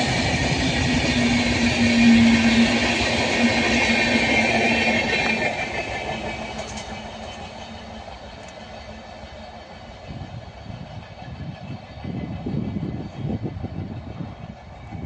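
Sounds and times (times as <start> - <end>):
passenger train rumbling past: 0.0 - 15.0.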